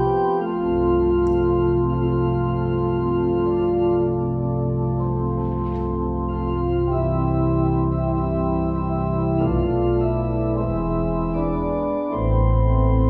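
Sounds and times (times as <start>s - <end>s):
deep bass: 0.0s - 13.0s
organ playing sustained chords: 0.0s - 13.0s.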